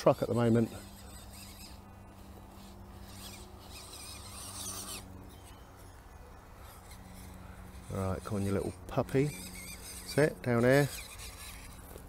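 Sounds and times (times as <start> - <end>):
rasping rustles in leaves: 0.0 - 12.0
toy truck motor whirring: 0.0 - 12.0.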